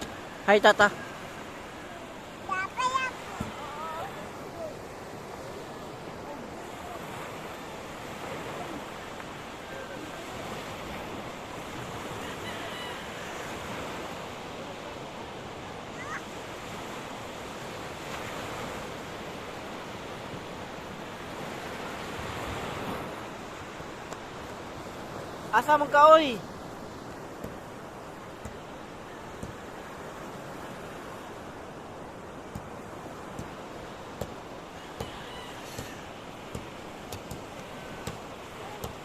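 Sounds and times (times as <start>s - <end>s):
sea surf washing on shore: 0.0s - 39.0s.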